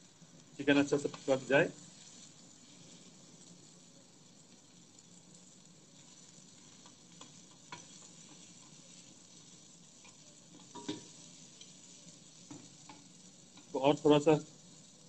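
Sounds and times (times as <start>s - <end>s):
chicken sizzling on a grill pan: 0.0s - 15.0s.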